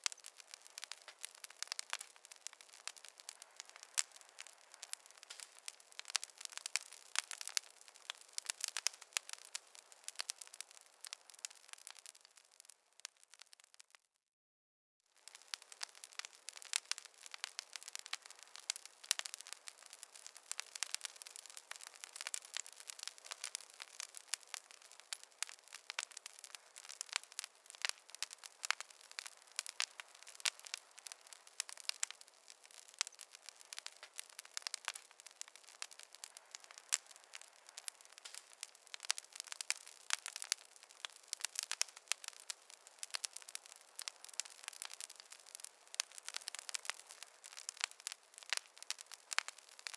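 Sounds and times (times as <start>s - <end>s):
campfire crackling: 0.0s - 14.0s, 15.1s - 49.9s.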